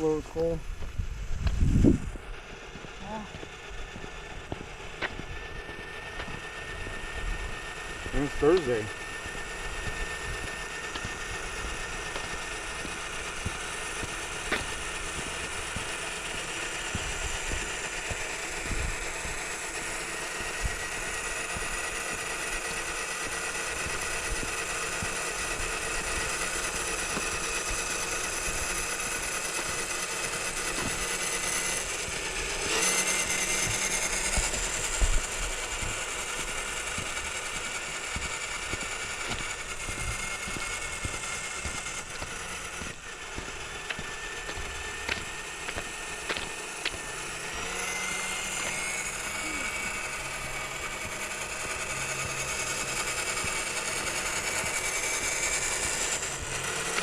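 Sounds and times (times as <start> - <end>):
toy truck motor whining: 0.0 - 57.0.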